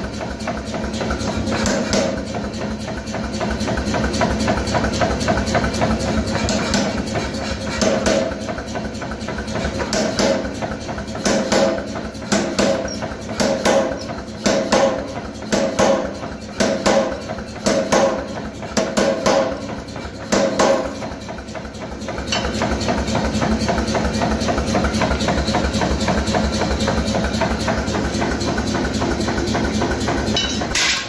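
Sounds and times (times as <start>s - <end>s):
machine running steadily: 0.0s - 31.0s
power hammer striking hot steel: 0.2s - 3.6s, 4.2s - 21.2s, 22.1s - 31.0s.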